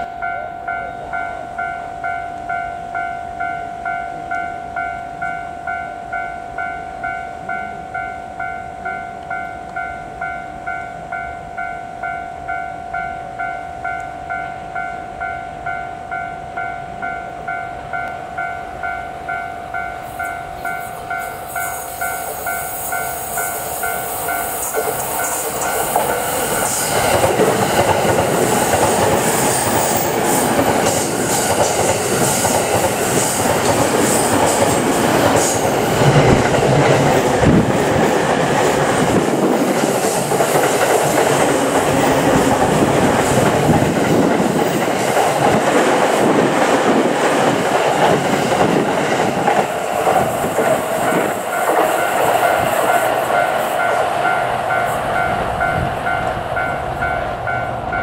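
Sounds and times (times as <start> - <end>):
train passing on rails: 0.0 - 58.0.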